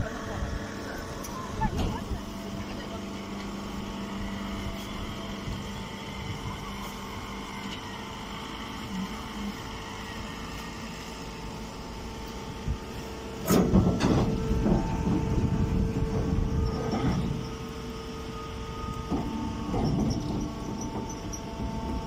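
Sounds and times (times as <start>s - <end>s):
straw baler machine hum: 0.0s - 22.0s.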